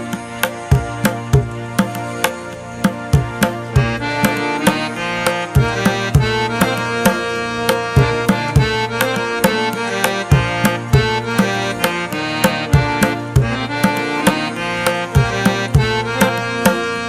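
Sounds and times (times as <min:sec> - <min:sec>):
hand drum beat: 0:00.0 - 0:17.0
sustained melodic instrument: 0:00.0 - 0:17.0.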